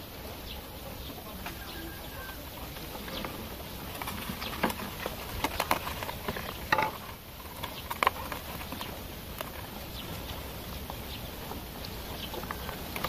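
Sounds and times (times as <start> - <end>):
steady low background noise: 0.0 - 13.0
dry leaf and cardboard crackling: 1.2 - 13.0.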